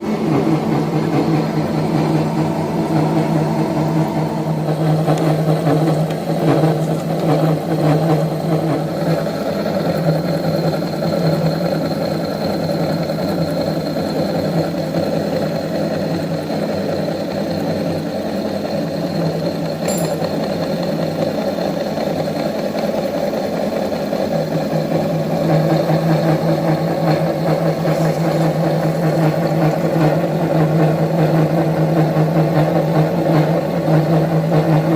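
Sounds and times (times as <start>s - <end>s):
milling machine humming: 0.0s - 34.9s.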